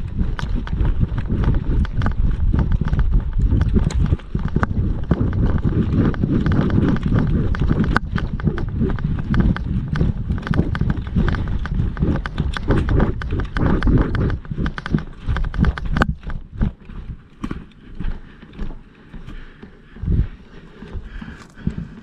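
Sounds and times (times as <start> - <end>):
running footsteps: 0.0 - 22.0.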